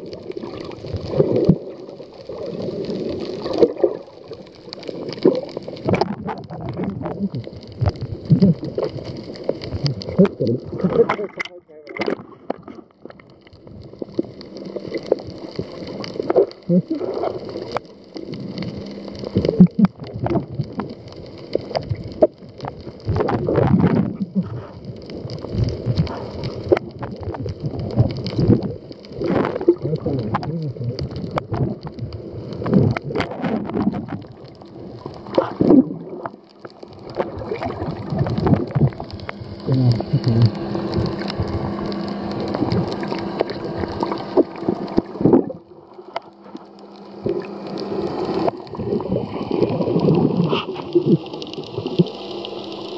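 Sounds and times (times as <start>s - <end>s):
underwater water sloshing: 0.0s - 52.9s.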